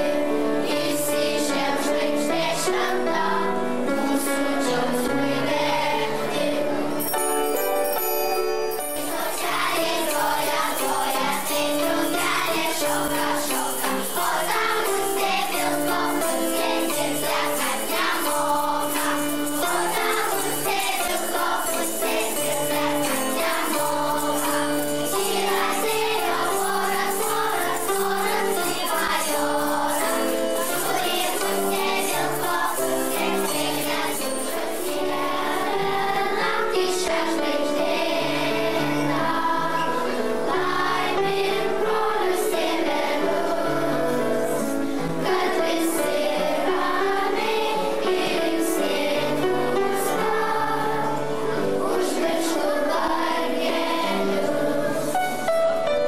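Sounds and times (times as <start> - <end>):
children's choir singing: 0.0 - 56.0
jingling percussion: 6.9 - 55.6.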